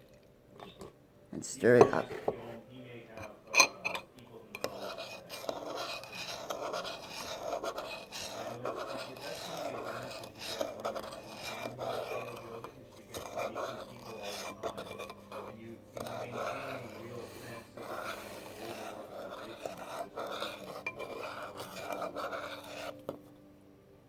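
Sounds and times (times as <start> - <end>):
spoon scraping a bowl: 1.6 - 23.3.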